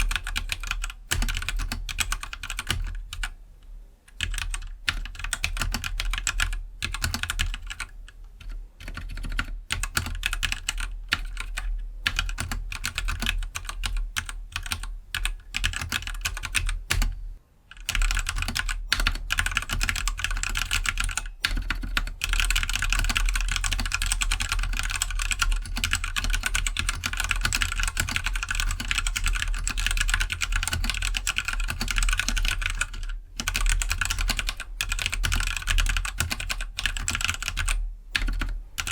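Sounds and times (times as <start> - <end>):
mechanical keyboard typing: 0.0 - 3.4, 4.1 - 38.9.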